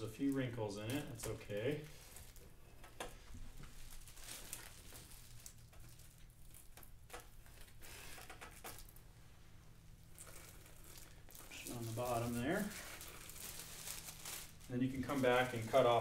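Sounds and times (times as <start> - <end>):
plastic film crinkling: 0.0 - 9.0, 10.0 - 16.0.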